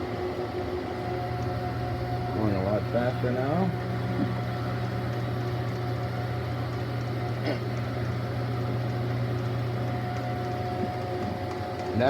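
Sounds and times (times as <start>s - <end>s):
lathe machine hum: 0.0s - 12.0s.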